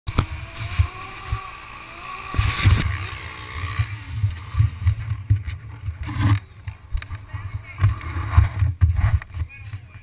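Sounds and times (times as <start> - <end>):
motorcycle engine at low revs: 0.1 - 9.4.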